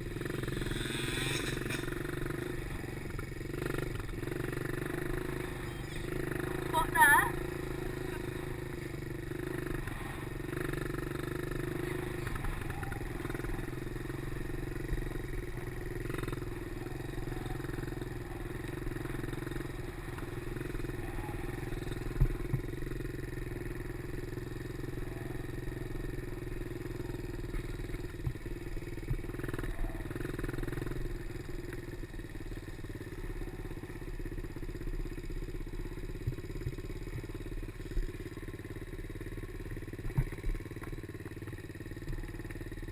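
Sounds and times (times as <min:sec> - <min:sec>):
small motorcycle engine running: 0:00.0 - 0:42.9.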